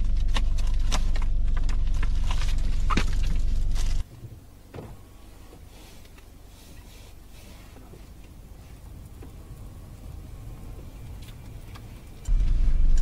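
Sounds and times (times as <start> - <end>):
car rumbling slowly: 0.0 - 13.0
faint steady background noise: 0.8 - 13.0.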